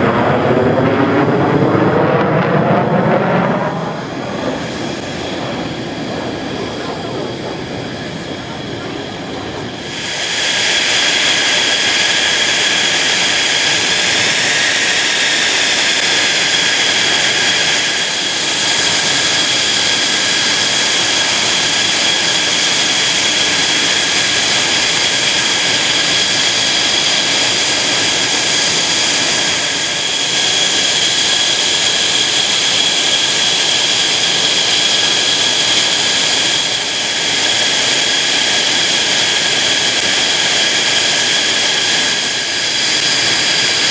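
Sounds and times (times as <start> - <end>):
jet engine whining and roaring: 0.0 - 43.9.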